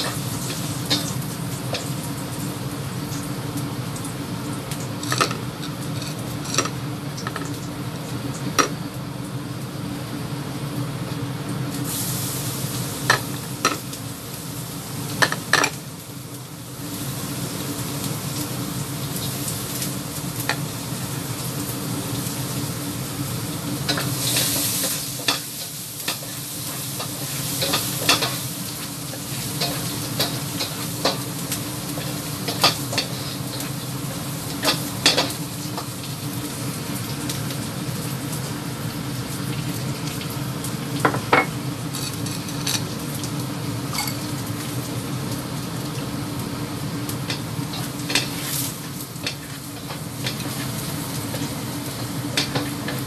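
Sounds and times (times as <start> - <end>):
garlic sizzling in hot oil: 0.0 - 53.0.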